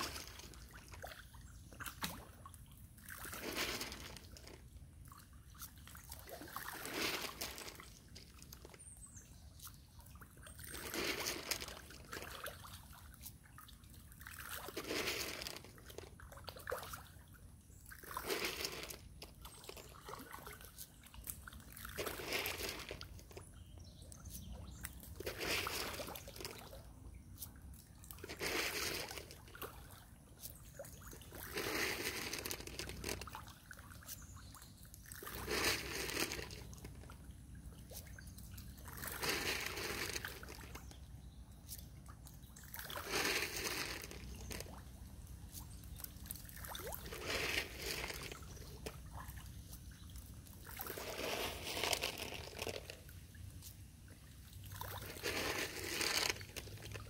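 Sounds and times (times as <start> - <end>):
fish splashing at water surface: 0.0 - 8.8, 9.8 - 23.5, 24.6 - 26.9, 27.6 - 41.0, 41.8 - 57.0.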